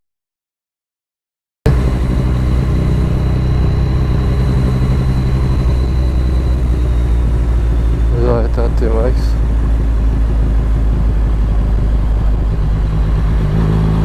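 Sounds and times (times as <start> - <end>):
motorcycle engine rumbling: 1.7 - 14.0.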